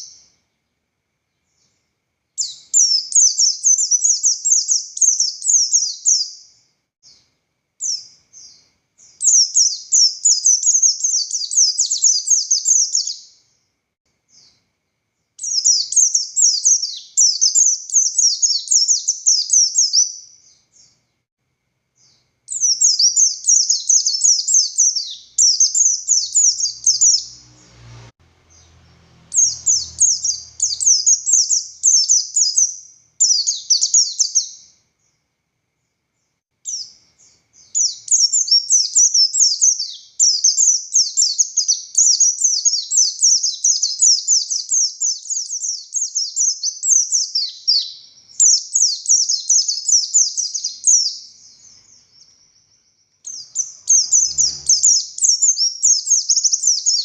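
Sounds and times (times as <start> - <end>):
bird twittering song: 0.0 - 13.6, 14.3 - 21.2, 22.0 - 35.2, 35.8 - 57.0.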